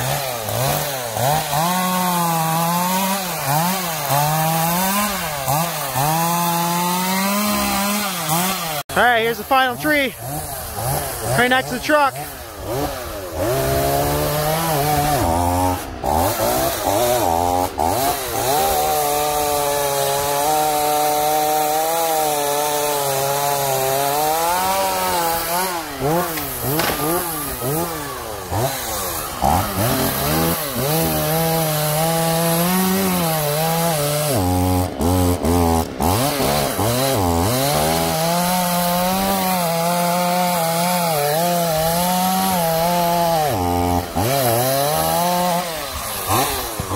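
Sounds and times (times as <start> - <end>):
chainsaw cutting a tree: 0.0 - 46.9.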